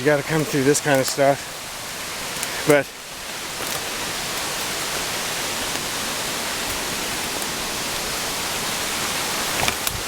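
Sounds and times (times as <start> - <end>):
creek water rushing: 0.0 - 10.0
small waterfall: 0.0 - 10.0.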